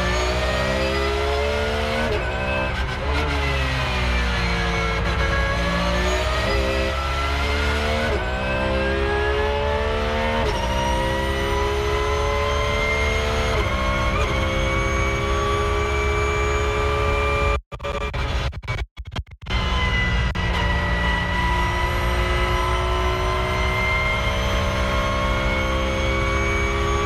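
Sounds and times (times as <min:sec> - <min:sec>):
race car engine accelerating: 0:00.0 - 0:17.6, 0:19.5 - 0:27.0.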